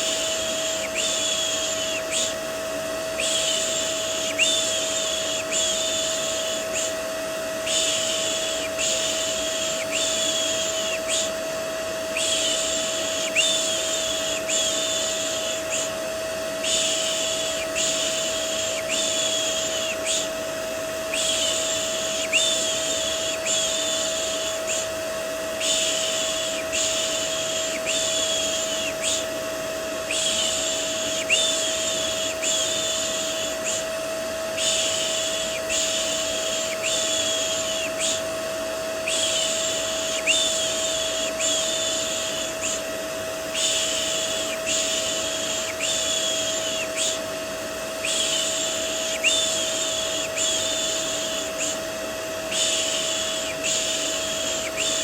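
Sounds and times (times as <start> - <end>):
vacuum cleaner motor: 0.0 - 55.0.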